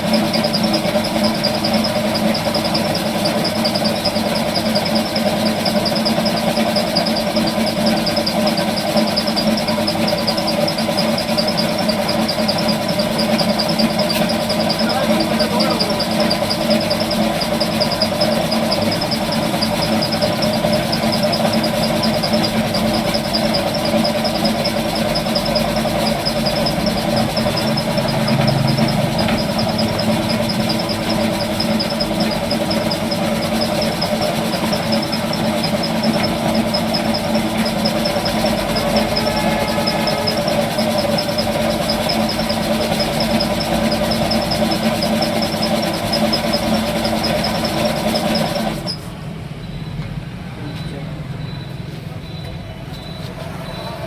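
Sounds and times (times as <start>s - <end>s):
machine humming with high pulsing: 0.0s - 49.0s.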